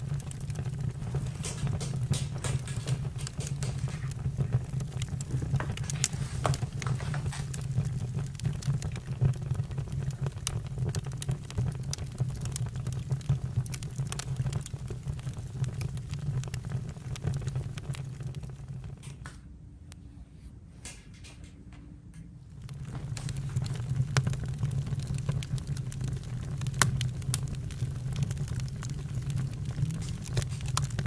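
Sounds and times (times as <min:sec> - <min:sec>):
campfire crackling: 0:00.0 - 0:19.3, 0:22.4 - 0:31.0.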